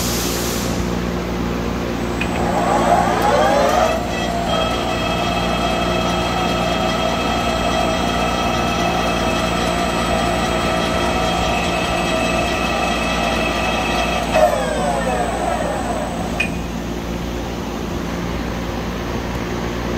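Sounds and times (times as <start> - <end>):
lathe spindle humming and whining: 1.4 - 19.4.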